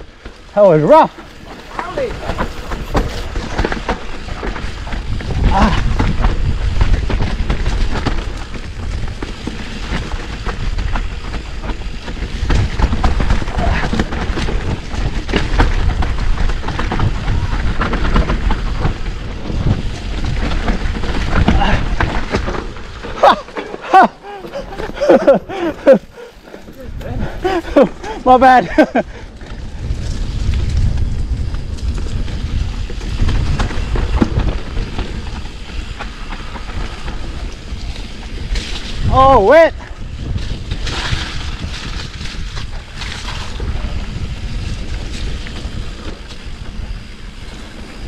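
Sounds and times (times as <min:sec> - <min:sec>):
mountain bike rattling over rocks: 0:00.0 - 0:48.0
wind buffeting microphone: 0:00.0 - 0:48.0.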